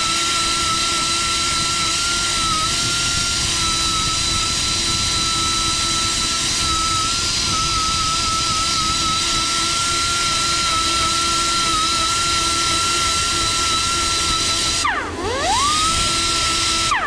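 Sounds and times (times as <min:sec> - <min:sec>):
electric grinder grinding metal: 0:00.0 - 0:17.0.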